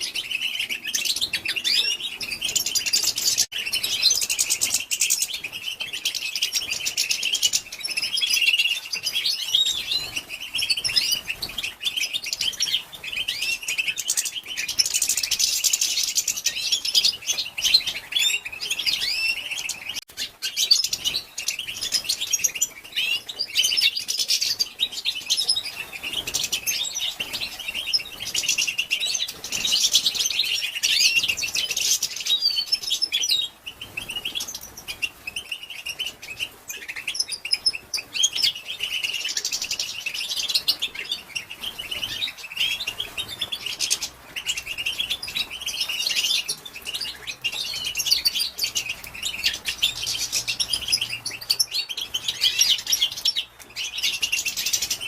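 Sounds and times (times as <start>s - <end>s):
goldfinch twittering: 0.0s - 55.0s.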